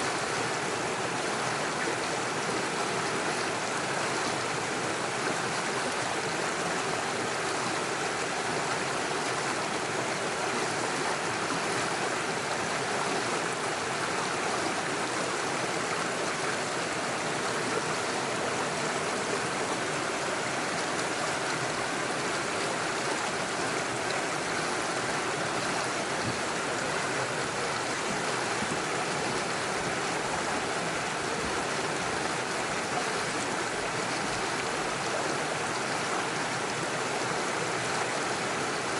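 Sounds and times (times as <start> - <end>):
stream running over stones: 0.0 - 38.9.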